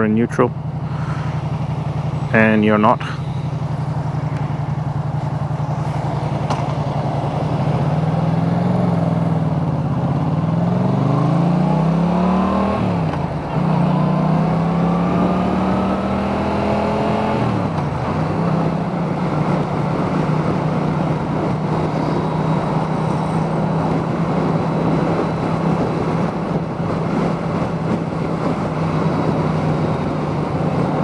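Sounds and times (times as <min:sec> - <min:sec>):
motorcycle engine accelerating: 0:00.0 - 0:31.0
wind and road rush: 0:00.0 - 0:31.0.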